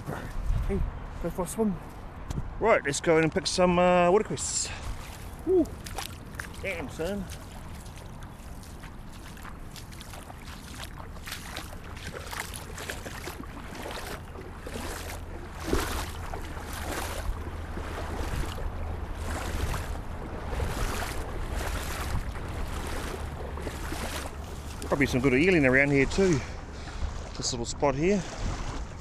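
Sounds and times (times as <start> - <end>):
wind rumble on microphone: 0.0 - 1.3, 2.0 - 2.6, 4.8 - 29.0
person wading through water: 4.4 - 29.0.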